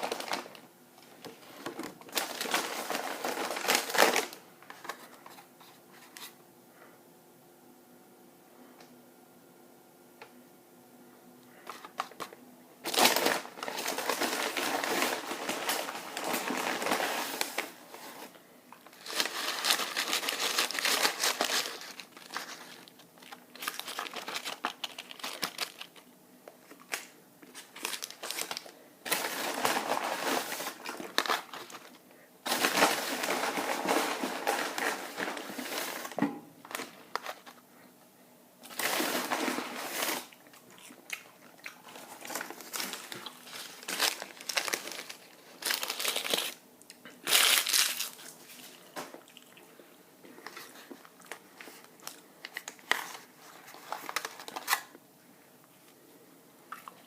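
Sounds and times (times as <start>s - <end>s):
food packaging crinkling: 0.0s - 6.4s, 11.5s - 37.6s, 38.6s - 49.6s, 50.3s - 55.0s.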